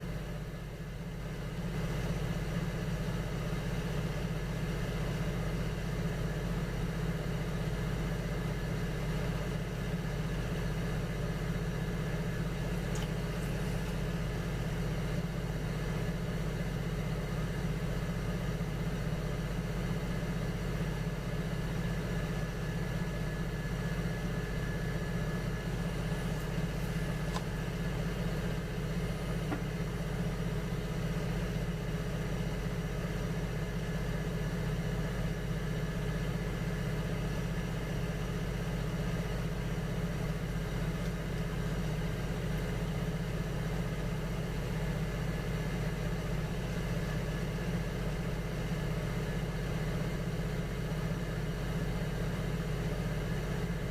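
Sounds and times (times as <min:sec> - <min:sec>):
potter's wheel motor humming: 0:00.0 - 0:53.9.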